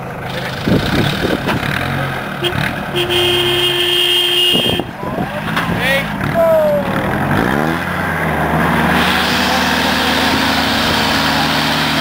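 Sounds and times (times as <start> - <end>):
jeep engine revving: 0.0 - 12.0.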